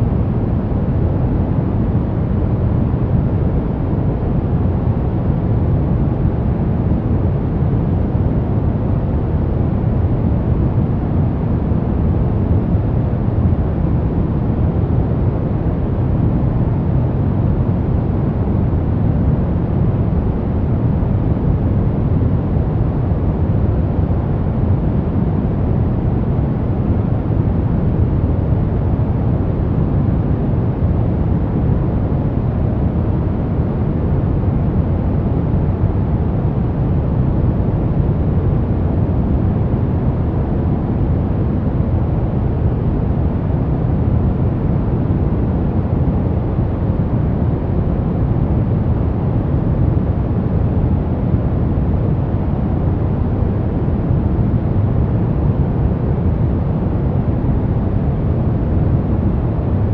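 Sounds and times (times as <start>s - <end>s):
deep white noise: 0.0s - 59.9s.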